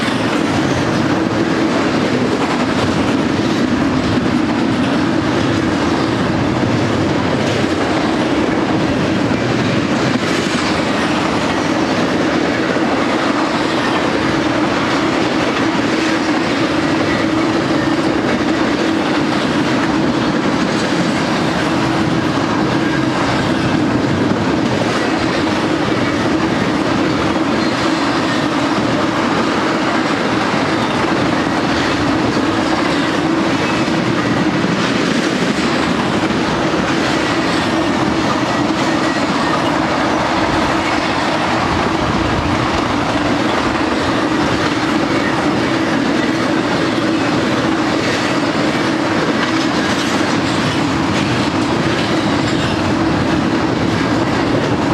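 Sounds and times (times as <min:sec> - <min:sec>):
train wheels rolling on rails: 0:00.0 - 0:54.9.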